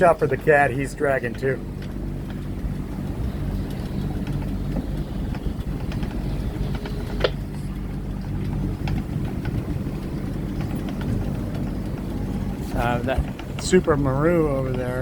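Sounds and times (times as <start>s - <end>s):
boat engine rumbling: 0.0s - 15.0s
small clicks: 1.1s - 15.0s.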